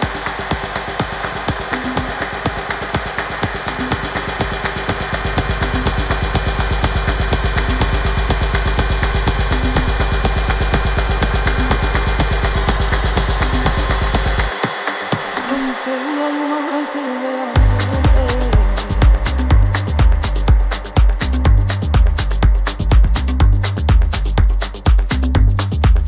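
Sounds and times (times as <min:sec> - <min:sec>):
heavy bass line: 0:00.0 - 0:14.5, 0:17.6 - 0:26.0
driving electronic beat: 0:00.0 - 0:16.1, 0:17.6 - 0:26.0.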